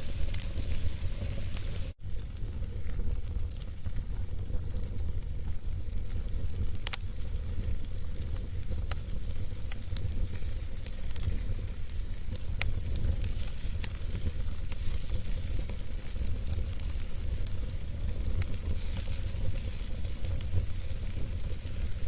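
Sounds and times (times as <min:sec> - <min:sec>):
fire rumbling: 0:00.0 - 0:22.0
wood crackling and popping: 0:00.0 - 0:22.0.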